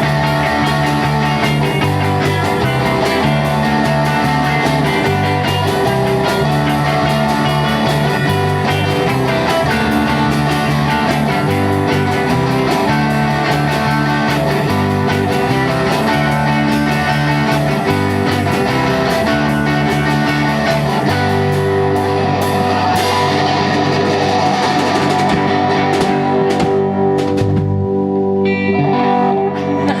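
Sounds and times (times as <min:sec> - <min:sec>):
instrumental rock band: 0:00.0 - 0:30.0.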